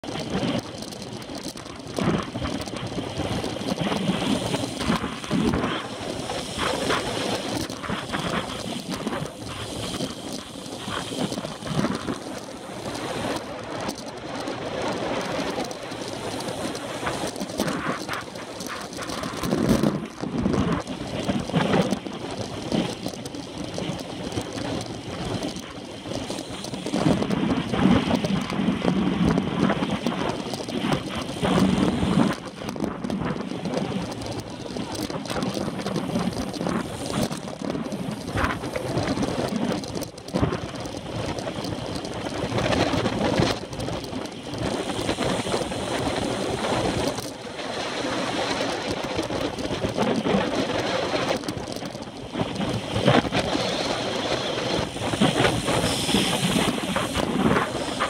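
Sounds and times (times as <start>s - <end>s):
bike knocks and rattles: 0.0s - 58.0s
tyre and road noise: 0.0s - 58.0s
wind buffeting microphone: 0.0s - 58.0s.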